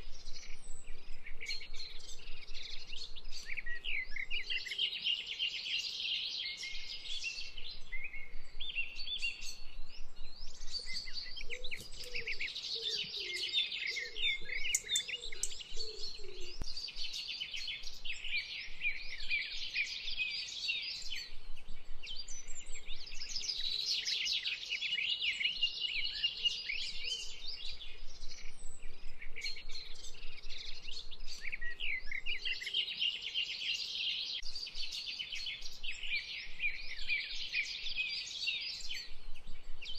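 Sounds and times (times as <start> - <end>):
lower bird calls: 0.0 - 39.9
small birds chirping and trilling: 0.0 - 39.9.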